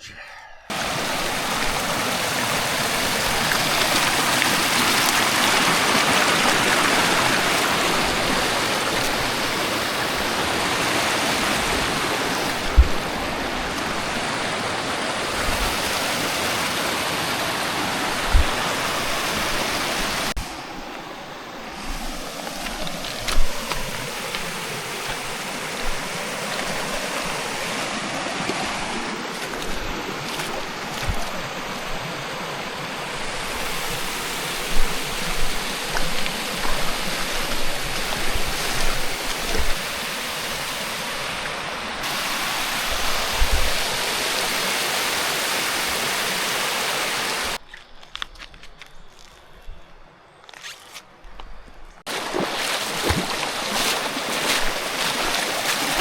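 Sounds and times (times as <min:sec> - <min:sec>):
river water rushing: 0:00.7 - 0:47.6, 0:52.1 - 0:56.0.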